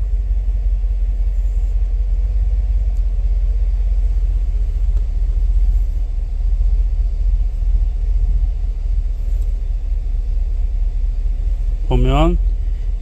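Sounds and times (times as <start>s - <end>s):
engine idling with misfire: 0.0s - 13.0s.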